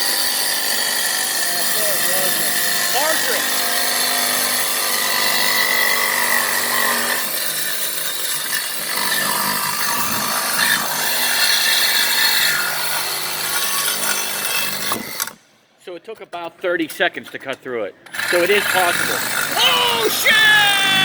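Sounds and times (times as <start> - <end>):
saw grinding through metal pipe: 0.0 - 15.4, 18.1 - 21.0.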